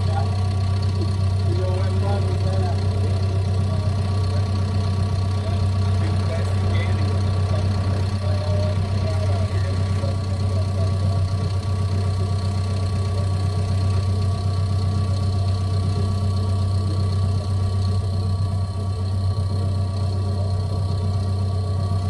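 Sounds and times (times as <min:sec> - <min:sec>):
diesel engine droning: 0:00.0 - 0:22.0
thin steady whines: 0:00.0 - 0:22.0.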